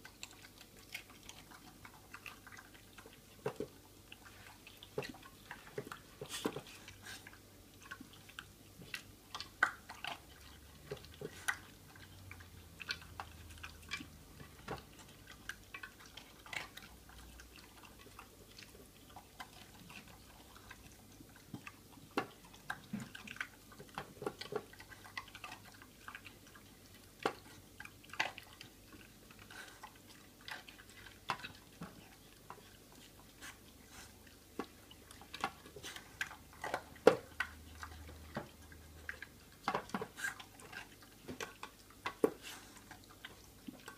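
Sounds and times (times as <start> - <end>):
dog chewing food: 0.0 - 43.9.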